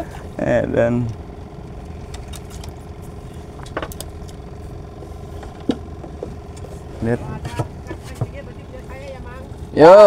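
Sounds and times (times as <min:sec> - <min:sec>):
small boat engine idling: 0:00.0 - 0:10.0.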